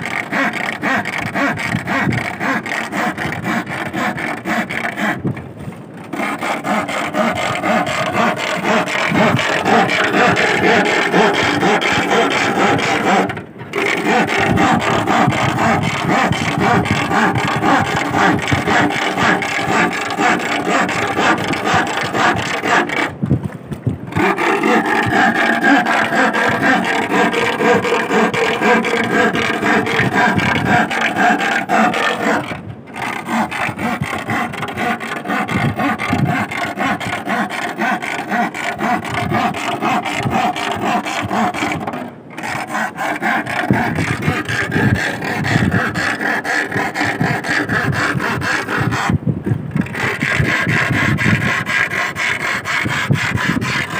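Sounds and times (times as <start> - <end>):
iron rod scraping rasp: 0.0 - 23.3, 24.0 - 53.9.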